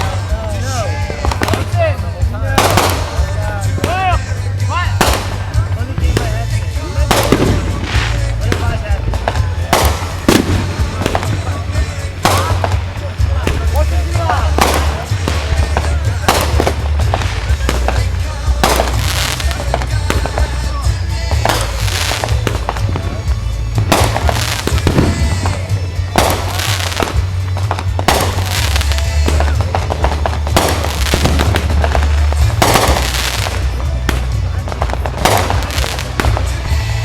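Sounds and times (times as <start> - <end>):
fireworks bangs and crackling: 0.0 - 37.0
music playing: 0.0 - 37.0.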